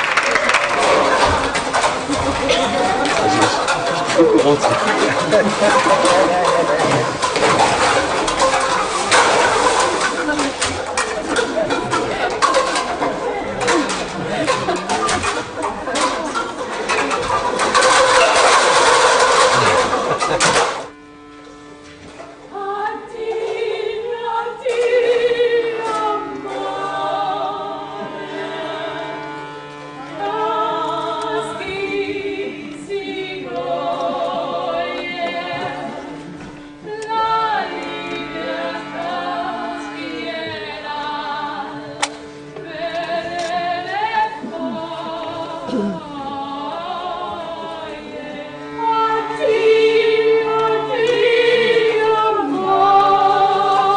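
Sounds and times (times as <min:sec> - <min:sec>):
voices singing with vibrato: 0:00.0 - 0:20.8, 0:22.5 - 0:29.4, 0:30.0 - 0:53.9.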